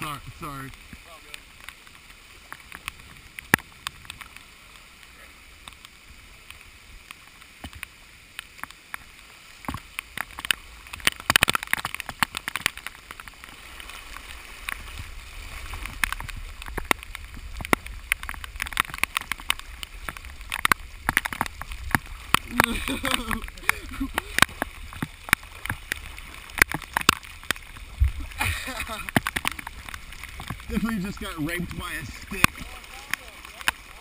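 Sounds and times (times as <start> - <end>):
feet wading through water: 0.0 - 34.0
water drops tapping on camera: 0.7 - 4.5, 5.6 - 13.5, 15.8 - 34.0.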